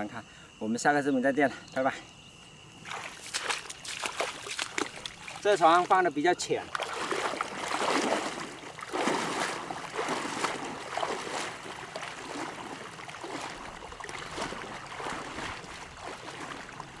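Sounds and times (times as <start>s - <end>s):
legs wading through water: 2.8s - 17.0s.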